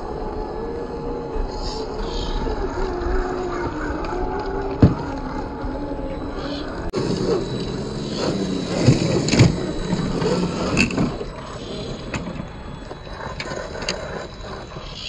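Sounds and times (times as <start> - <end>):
electric motor and gear whine: 0.0 - 15.0.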